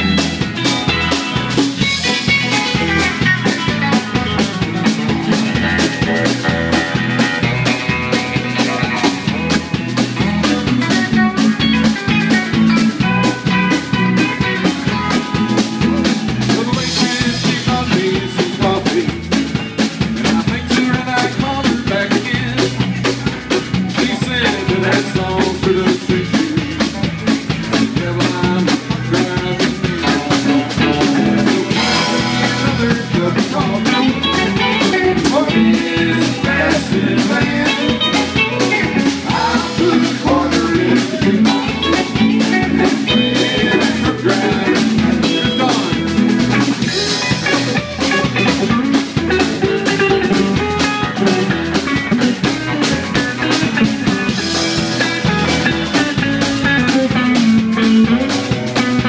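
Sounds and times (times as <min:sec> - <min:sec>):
drum kit beat: 0:00.0 - 0:59.0
electric bass: 0:00.0 - 0:59.0
guitars: 0:00.0 - 0:59.0.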